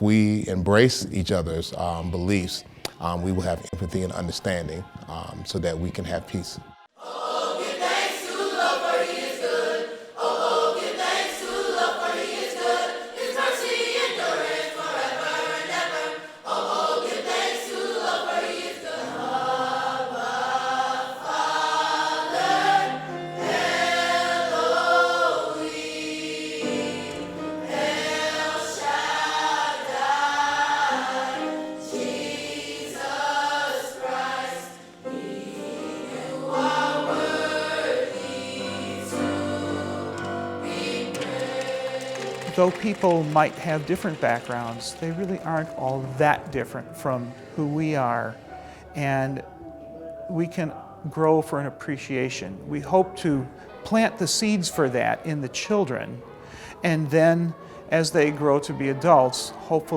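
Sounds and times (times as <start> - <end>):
choir singing: 2.3 - 49.3, 53.7 - 59.9.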